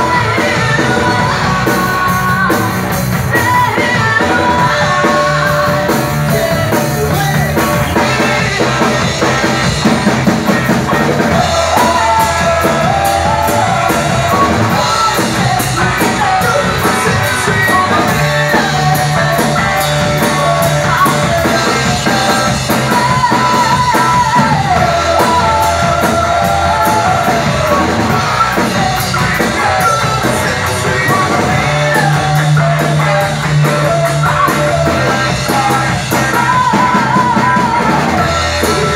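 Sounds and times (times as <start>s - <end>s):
woman singing into microphone: 0.0s - 8.7s, 10.9s - 38.9s
drum kit: 0.0s - 38.9s
electric guitar: 0.0s - 38.9s.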